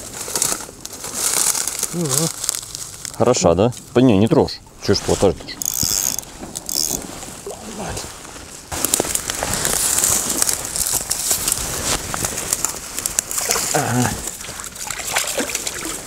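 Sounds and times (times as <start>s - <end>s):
dry reeds crackling and rustling: 0.0s - 16.0s.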